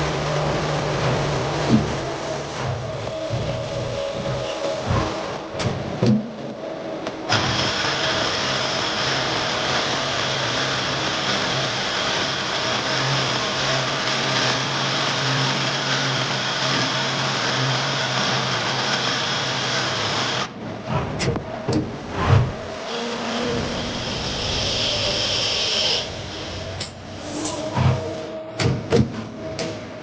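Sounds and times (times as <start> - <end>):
lathe machining with high whine: 0.0 - 30.0.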